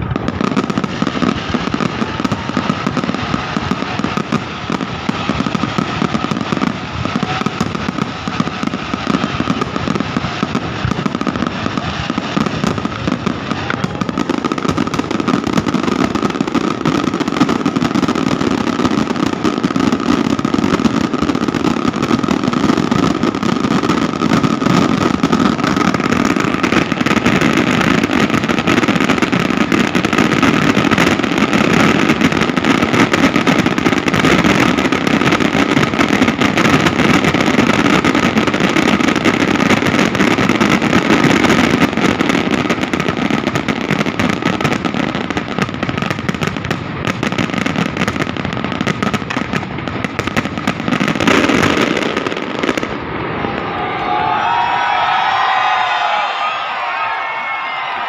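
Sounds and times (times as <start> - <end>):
fireworks crackling bursts: 0.0 - 58.0.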